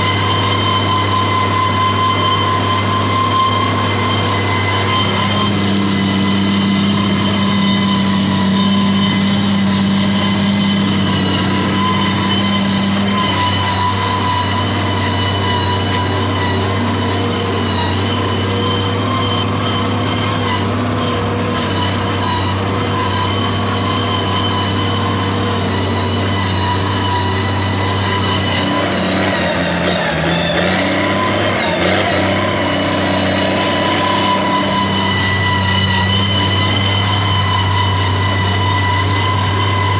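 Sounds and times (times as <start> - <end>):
high whine: 0.0 - 39.9
tractor diesel engine under load: 0.0 - 39.9.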